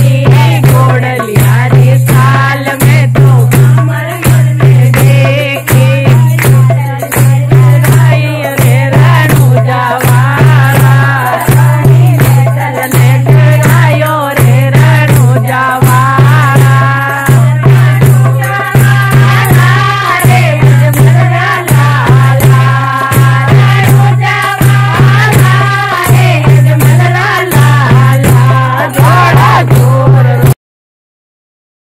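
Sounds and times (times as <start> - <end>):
deep drum beat: 0.0 - 30.6
devotional singing: 0.0 - 30.6
rattling percussion: 0.0 - 30.6.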